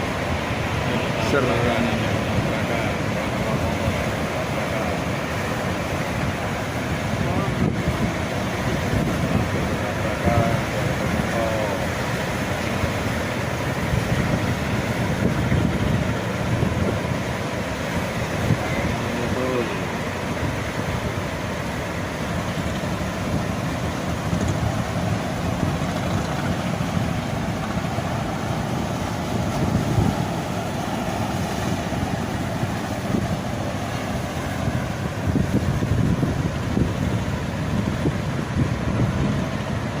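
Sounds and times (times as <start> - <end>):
strong wind buffeting microphone: 0.0 - 40.0.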